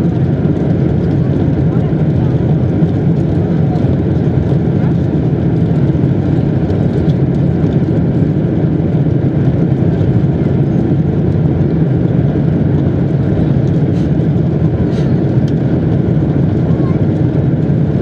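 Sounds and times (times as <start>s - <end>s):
jet airliner engines rumbling: 0.0s - 18.0s.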